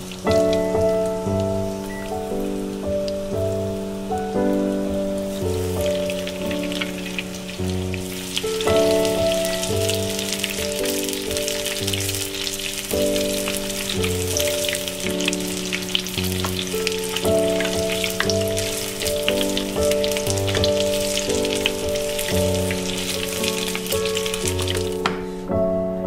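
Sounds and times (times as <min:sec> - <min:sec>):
hot oil sizzling and crackling: 0:00.0 - 0:25.1.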